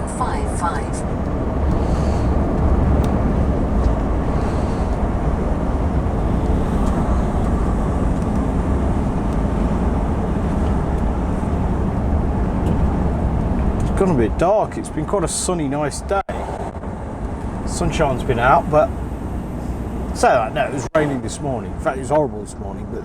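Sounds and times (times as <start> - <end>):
lorry engine drone: 0.0 - 15.7, 16.3 - 23.0
road rumble: 0.0 - 23.0.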